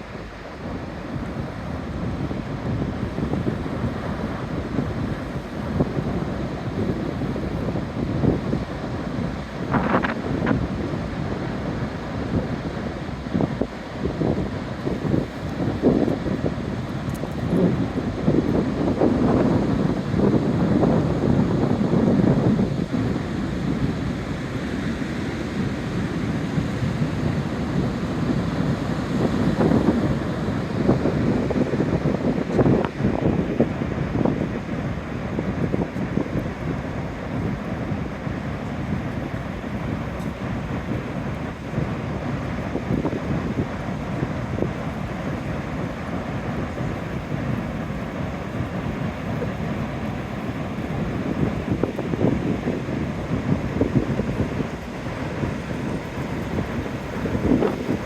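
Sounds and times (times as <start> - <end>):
ocean waves crashing: 0.0 - 58.0
surf breaking on the beach: 0.0 - 58.0
wind buffeting microphone: 0.0 - 58.0.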